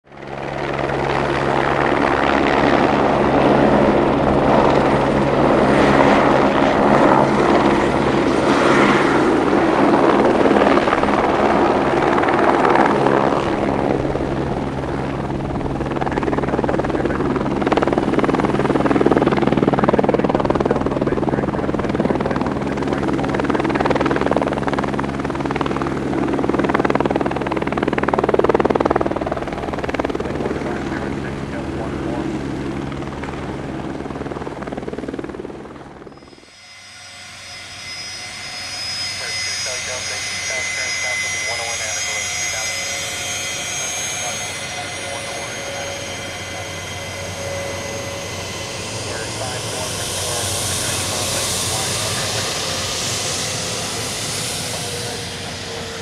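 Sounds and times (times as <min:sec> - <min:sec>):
helicopter turbine and rotors: 0:00.0 - 0:56.0.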